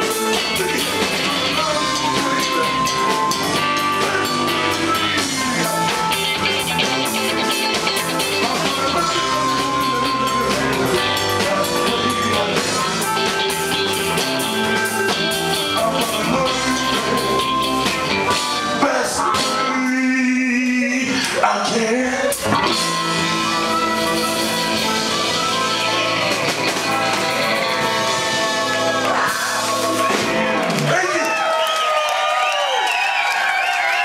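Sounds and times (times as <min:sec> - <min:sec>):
amplified blues harmonica: 0:00.0 - 0:19.8, 0:22.5 - 0:30.0
live blues band playing: 0:00.0 - 0:31.0.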